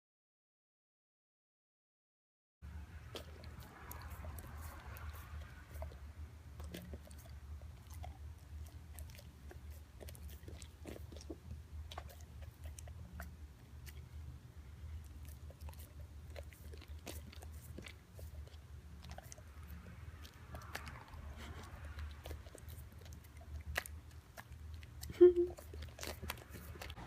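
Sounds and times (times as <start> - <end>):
steady low hum: 2.6 - 27.0
chewing and crunching clicks: 3.1 - 6.0, 6.6 - 14.1, 15.0 - 27.0.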